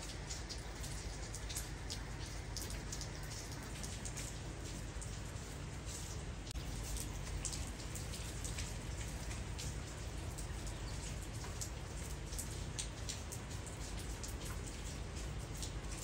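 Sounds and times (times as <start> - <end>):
drips tapping on leaves: 0.0 - 16.0.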